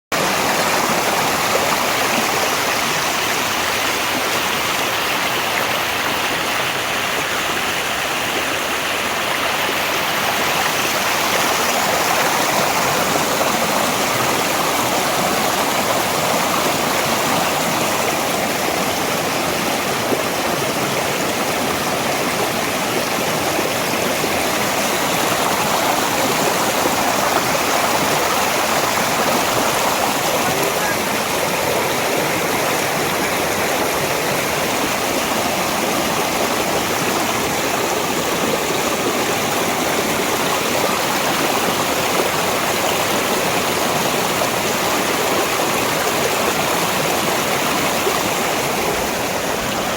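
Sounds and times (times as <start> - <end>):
stream water flowing: 0.1 - 49.9.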